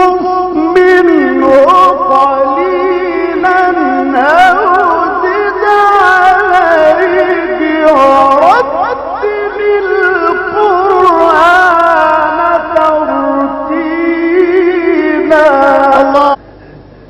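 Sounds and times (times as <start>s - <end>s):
melodic recitation by one voice: 0.0s - 16.4s.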